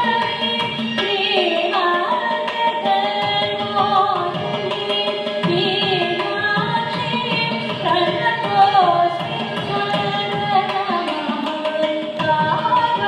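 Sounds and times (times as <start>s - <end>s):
violin: 0.0s - 13.0s.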